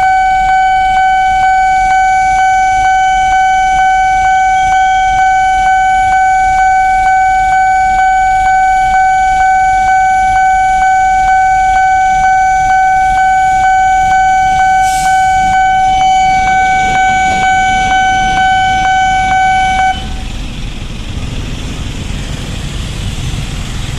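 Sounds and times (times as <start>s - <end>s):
level crossing alarm tone: 0.0s - 20.5s
street traffic: 0.0s - 23.9s
motorbike idling: 4.0s - 23.9s.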